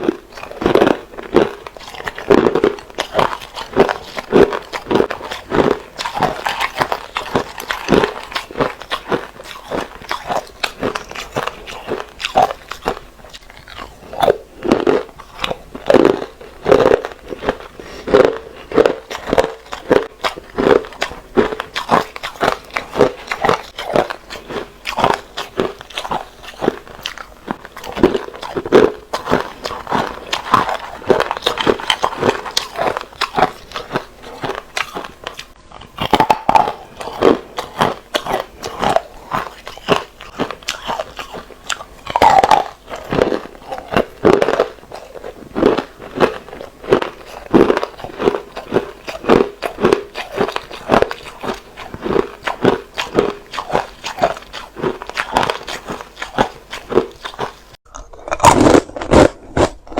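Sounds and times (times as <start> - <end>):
ice being crunched and chewed: 0.0 - 59.9.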